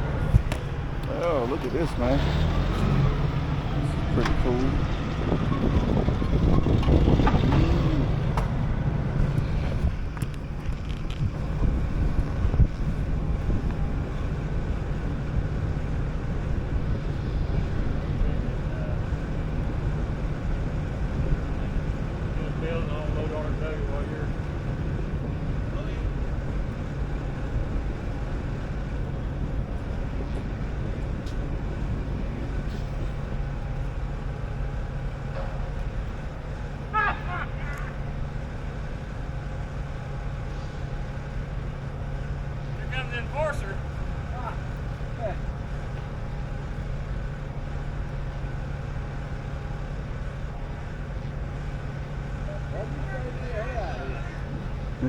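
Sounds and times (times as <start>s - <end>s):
road noise: 0.0s - 55.0s
truck diesel engine running: 0.0s - 55.0s.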